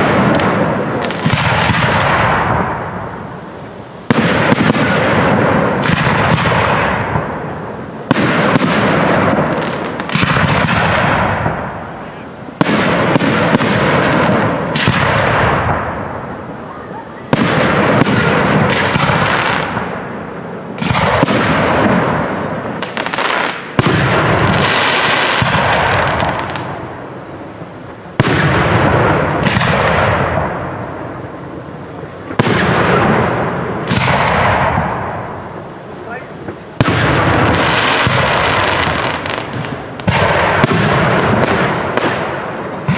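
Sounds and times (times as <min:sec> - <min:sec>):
firework bangs with rumble: 0:00.0 - 0:03.2, 0:04.1 - 0:11.9, 0:12.6 - 0:16.5, 0:17.3 - 0:27.0, 0:28.2 - 0:31.2, 0:32.2 - 0:35.5, 0:36.4 - 0:42.9.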